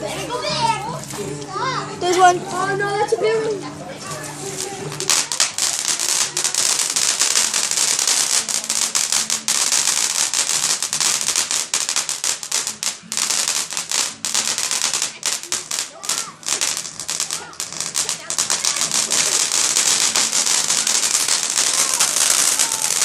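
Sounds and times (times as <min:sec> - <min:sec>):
fireworks crackling: 0:04.0 - 0:23.0.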